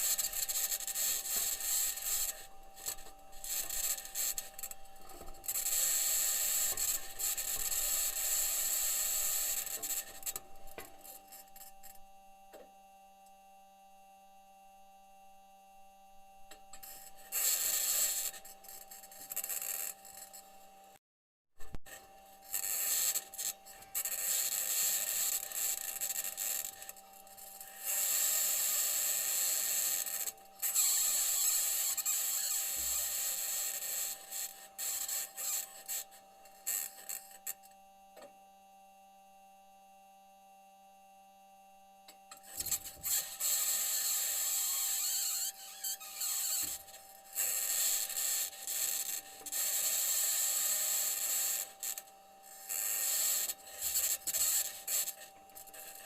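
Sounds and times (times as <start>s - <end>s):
faint steady tonal hum: 0.0s - 21.0s, 21.9s - 56.0s.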